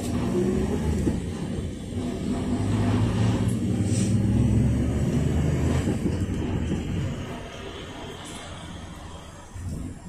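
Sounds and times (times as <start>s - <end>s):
minibus engine droning: 0.0s - 10.0s
road noise: 0.0s - 10.0s.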